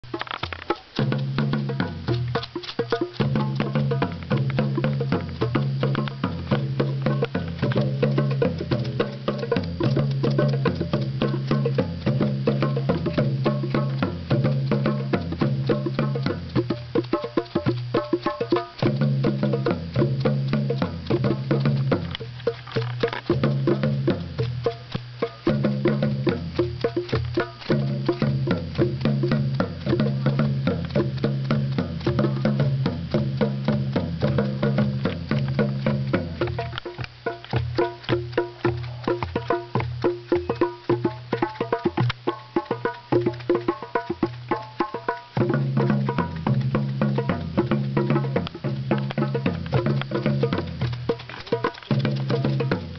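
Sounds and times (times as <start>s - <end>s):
rapid dense percussion: 0.0s - 52.9s.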